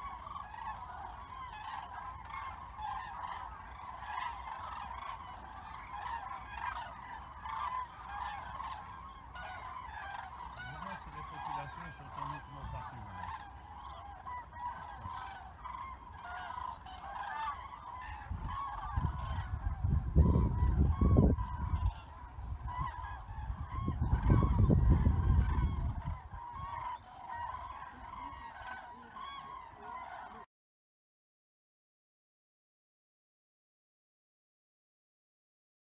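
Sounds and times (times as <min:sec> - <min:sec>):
cranes trumpeting: 0:00.0 - 0:30.4.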